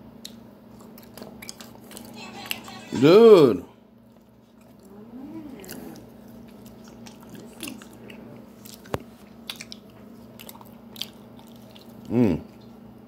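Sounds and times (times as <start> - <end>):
wet chewing sounds: 0.1 - 2.6, 4.0 - 12.9.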